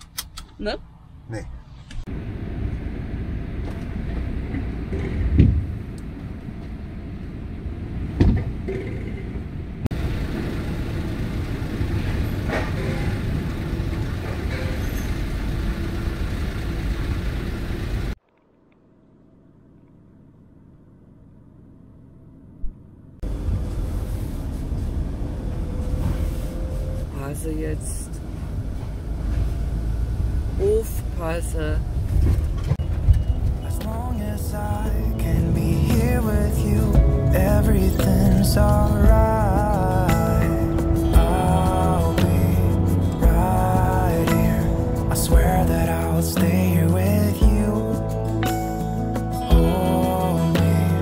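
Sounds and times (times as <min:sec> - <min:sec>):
engine and tyres rumbling: 0:00.0 - 0:51.0.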